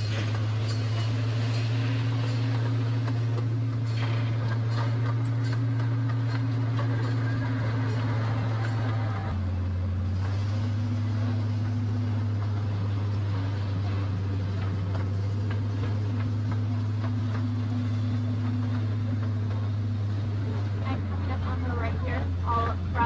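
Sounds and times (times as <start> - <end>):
small train engine drone: 0.0 - 23.0.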